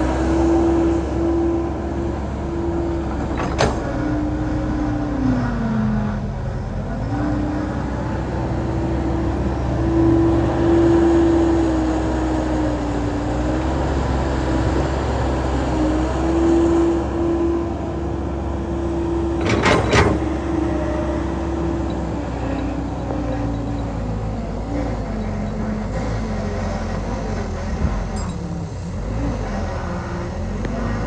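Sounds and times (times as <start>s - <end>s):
combine harvester engine droning: 0.0s - 31.0s.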